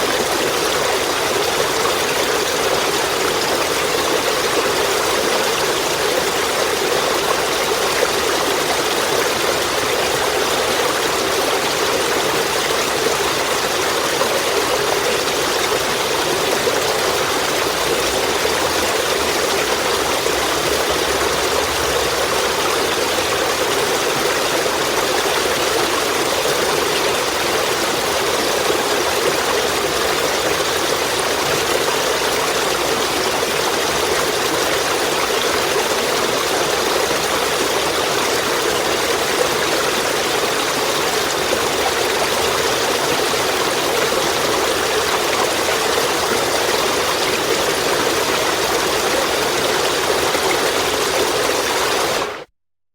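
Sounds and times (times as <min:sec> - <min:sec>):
stream flowing: 0:00.0 - 0:52.5.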